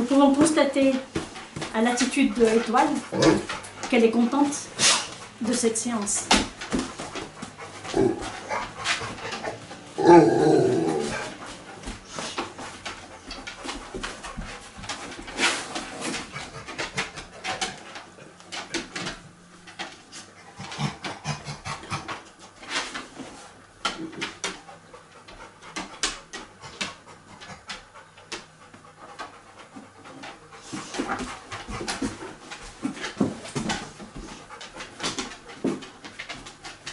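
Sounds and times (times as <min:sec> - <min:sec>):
dog panting: 0:00.0 - 0:10.0, 0:10.8 - 0:36.9.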